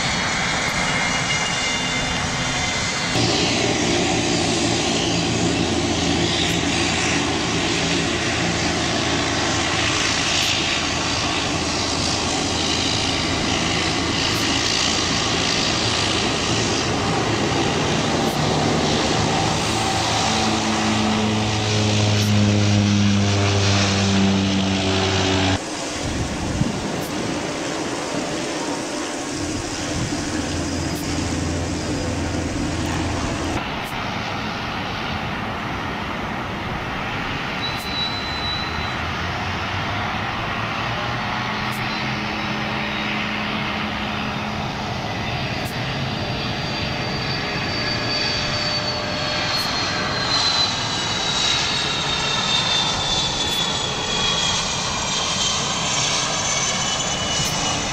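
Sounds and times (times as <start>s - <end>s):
jet airliner engines whining: 0.0s - 57.9s
turboprop engines droning: 0.0s - 57.9s.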